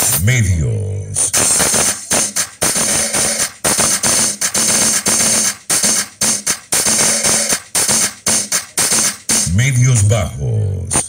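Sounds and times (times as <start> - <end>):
loud music with choppy beat: 0.0 - 0.6, 1.2 - 11.0.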